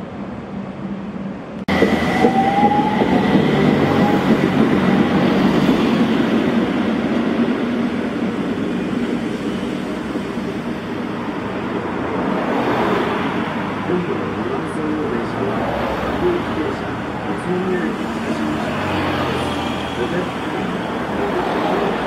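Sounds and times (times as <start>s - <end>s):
street ambience: 0.0s - 22.0s
tram running noise: 0.0s - 22.0s.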